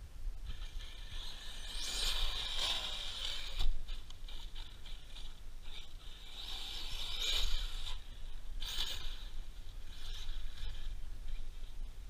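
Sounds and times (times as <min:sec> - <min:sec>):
small electric motors whining: 0:00.4 - 0:12.0.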